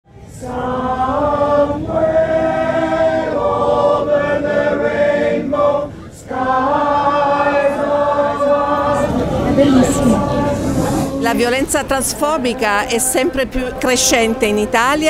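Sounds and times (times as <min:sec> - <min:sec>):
group of voices singing: 0:00.1 - 0:15.0.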